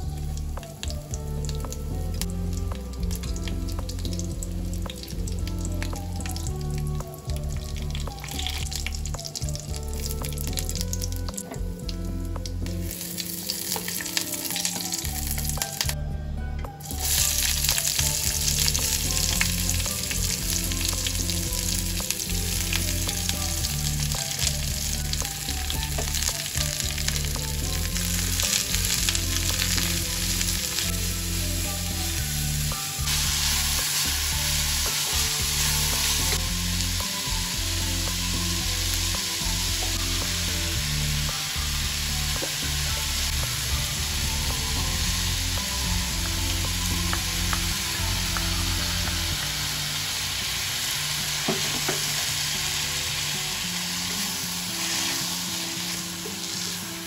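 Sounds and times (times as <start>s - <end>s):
onions sizzling in hot oil: 0.0s - 16.0s, 16.8s - 57.0s
soft background music: 0.0s - 57.0s.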